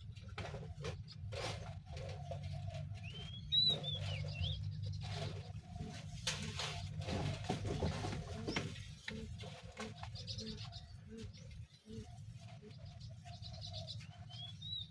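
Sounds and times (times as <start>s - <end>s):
birds calling: 0.0s - 14.9s.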